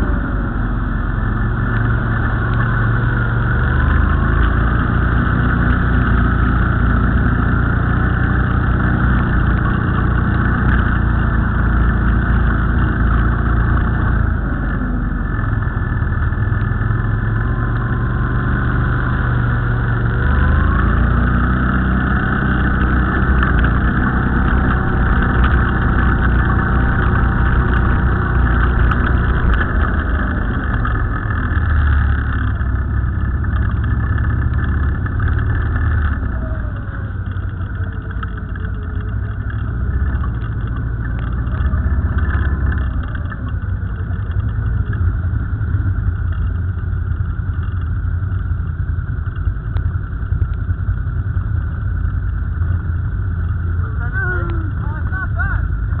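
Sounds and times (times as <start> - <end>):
atv engines revving: 0.0 - 56.0.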